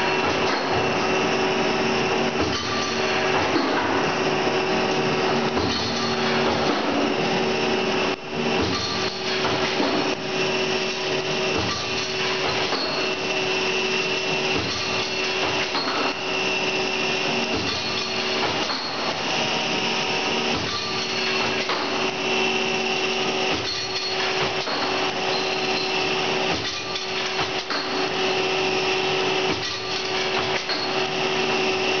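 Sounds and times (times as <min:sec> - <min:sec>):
machine whirring hum: 0:00.0 - 0:32.0.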